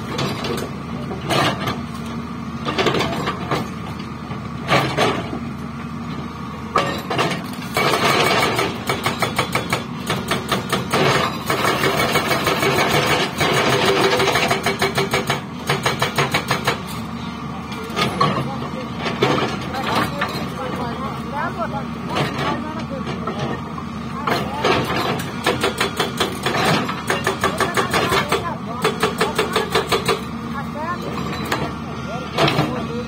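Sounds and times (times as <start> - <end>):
hydraulic rock breaker hammering: 0.0 - 5.6, 6.6 - 33.0
diesel engine running: 0.0 - 33.0.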